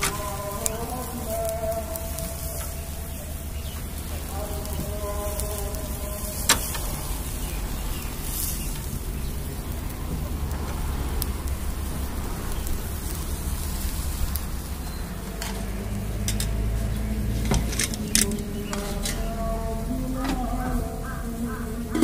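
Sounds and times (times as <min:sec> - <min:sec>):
meat sizzling on grill: 0:00.0 - 0:19.8
low rumble: 0:00.0 - 0:22.0.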